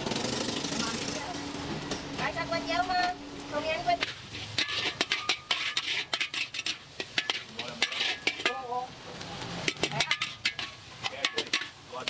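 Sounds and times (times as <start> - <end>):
food sizzling: 0.0 - 12.0
metal spatula scraping wok: 0.0 - 12.0.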